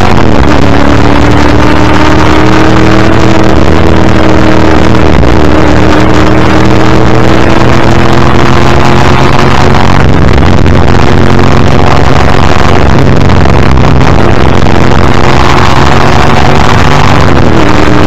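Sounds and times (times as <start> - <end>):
racing engine pulling hard: 0.0 - 18.0.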